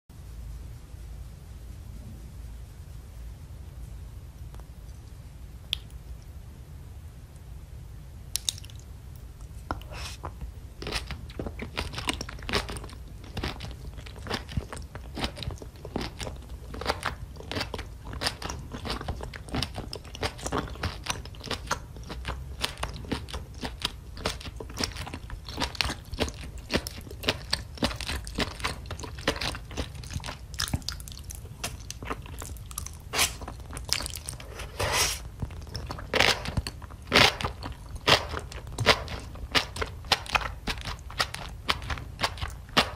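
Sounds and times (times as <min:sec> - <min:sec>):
low steady hum: 0:00.1 - 0:42.9
person chewing with mouth clicks: 0:08.3 - 0:42.9.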